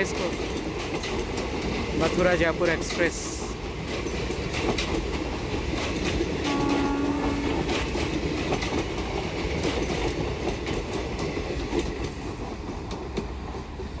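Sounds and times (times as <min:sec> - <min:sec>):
train wheels clicking over rail joints: 0:00.0 - 0:14.0.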